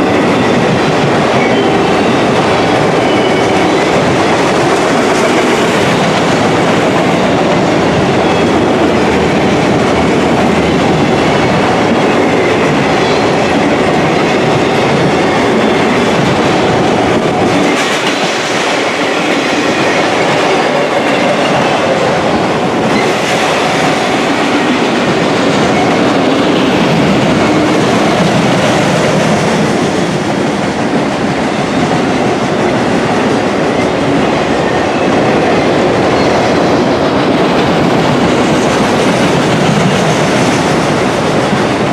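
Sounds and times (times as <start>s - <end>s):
freight train rumbling and rattling: 0.0s - 41.9s.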